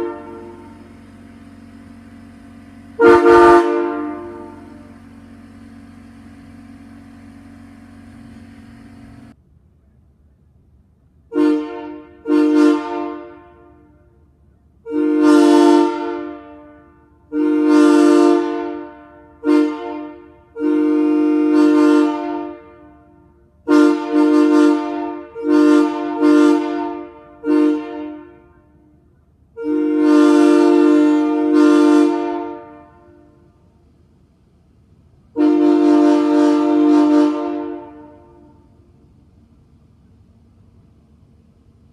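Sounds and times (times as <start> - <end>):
locomotive air horn blasts: 0.0 - 9.4, 11.2 - 34.0, 35.2 - 41.9.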